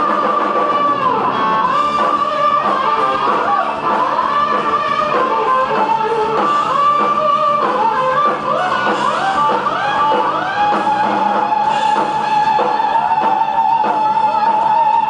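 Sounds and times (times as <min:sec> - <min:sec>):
electric guitar solo: 0:00.0 - 0:15.0
live rock band: 0:00.0 - 0:15.0.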